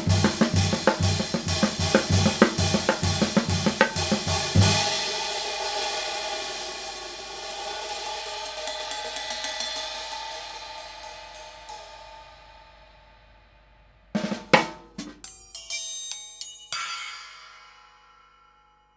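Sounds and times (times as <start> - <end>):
hi-hat cymbals ringing: 0.0 - 14.3, 14.9 - 18.9
drumstick strikes on cymbal: 0.0 - 18.9.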